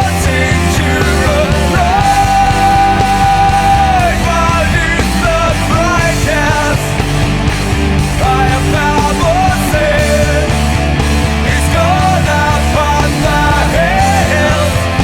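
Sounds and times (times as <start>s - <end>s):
drums: 0.0s - 15.0s
grunge rock instrumental: 0.0s - 15.0s
lead guitar bending notes: 0.0s - 15.0s.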